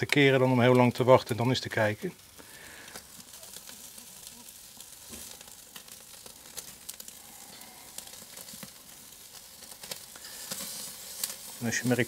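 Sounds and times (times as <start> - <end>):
chicken sizzling over charcoal: 0.0 - 12.0
small crackles: 0.0 - 12.0.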